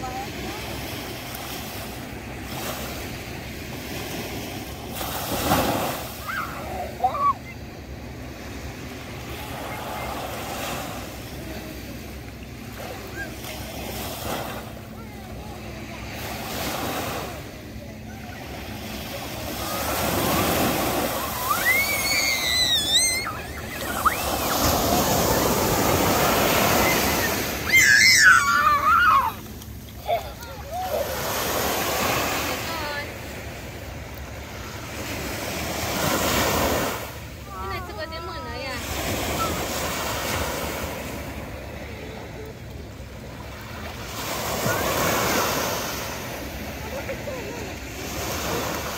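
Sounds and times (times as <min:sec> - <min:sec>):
small waves breaking on shore: 0:00.0 - 0:48.9.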